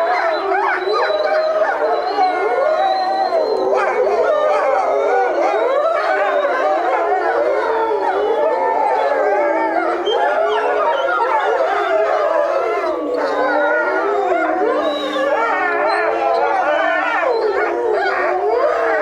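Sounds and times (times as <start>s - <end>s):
wolves howling in chorus: 0.0s - 19.0s.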